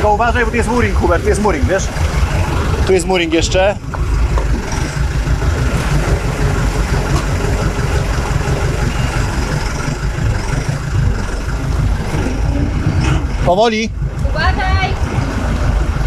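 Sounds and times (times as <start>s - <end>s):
boat engines rumbling: 0.0s - 16.0s.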